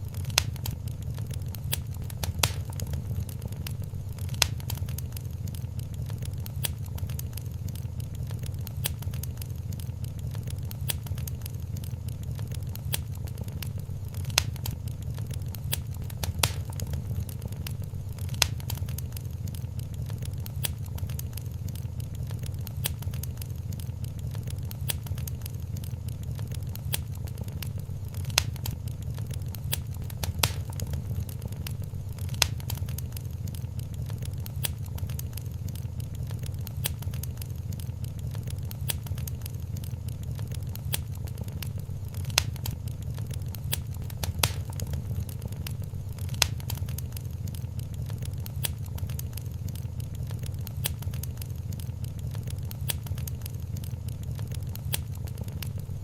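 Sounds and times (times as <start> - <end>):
sharp fire pops: 0.0 - 56.0
wood fire crackling: 0.0 - 56.0.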